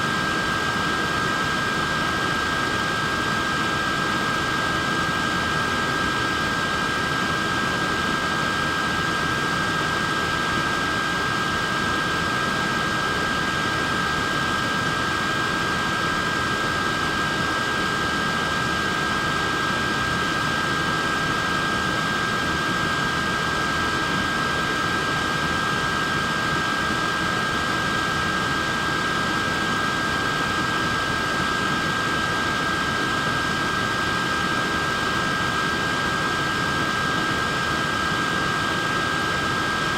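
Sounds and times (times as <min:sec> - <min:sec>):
fan motor whine: 0:00.0 - 0:39.9.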